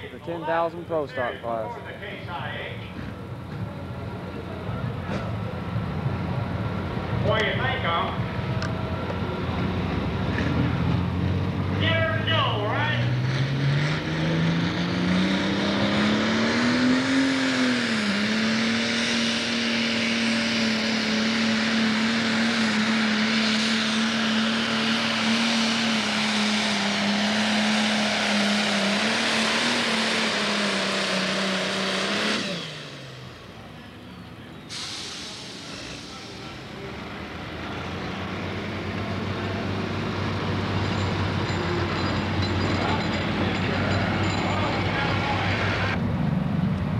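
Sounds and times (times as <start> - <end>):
diesel engine at full throttle: 0.0 - 46.9.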